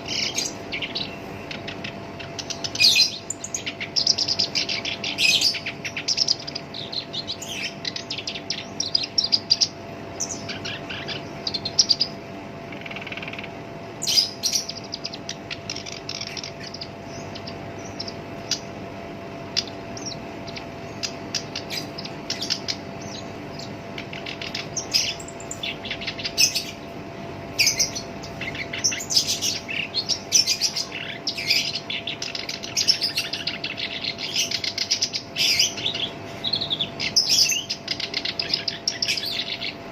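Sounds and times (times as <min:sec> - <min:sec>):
bird chattering song: 0:00.0 - 0:39.9
faint steady hum: 0:00.0 - 0:39.9.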